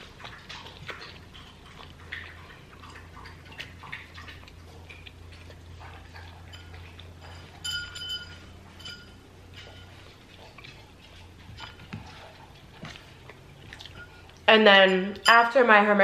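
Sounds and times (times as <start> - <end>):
chewing crunches: 0.0 - 14.5.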